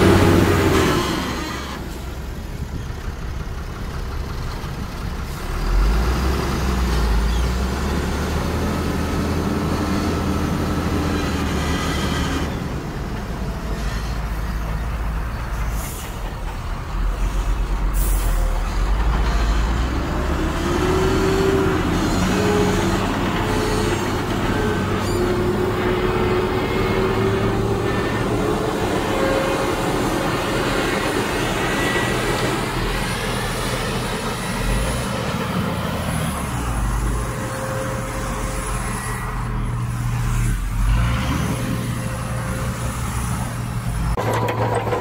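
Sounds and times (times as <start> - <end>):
heavy diesel engines running: 0.0 - 45.0.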